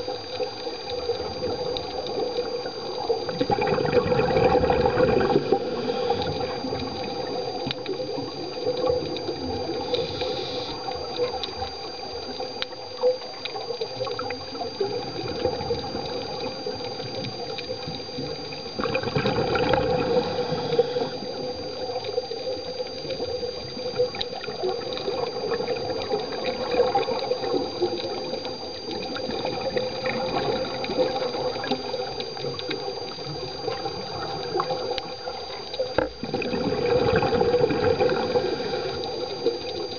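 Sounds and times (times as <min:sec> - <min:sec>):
regulator bubbles: 0:00.0 - 0:39.9
steady high whine: 0:00.0 - 0:39.9
underwater rush of water: 0:00.0 - 0:39.9.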